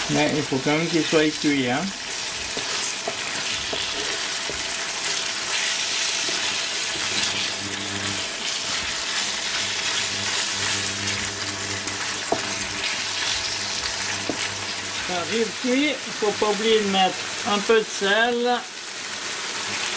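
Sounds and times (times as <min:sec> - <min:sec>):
food sizzling in a frying pan: 0:00.0 - 0:19.9.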